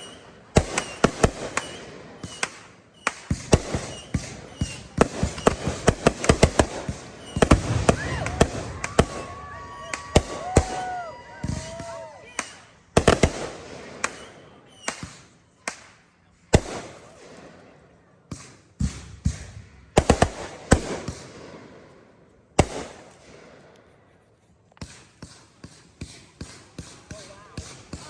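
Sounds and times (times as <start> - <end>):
small firework pops: 0.0 - 17.5, 18.3 - 21.3, 24.7 - 28.0
fireworks bangs: 0.0 - 23.7, 24.8 - 28.0.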